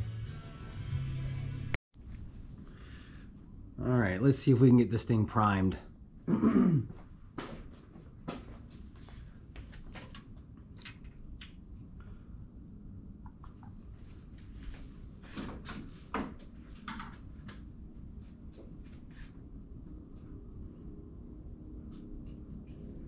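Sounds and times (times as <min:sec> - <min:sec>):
low steady background hum: 0:02.0 - 0:23.0.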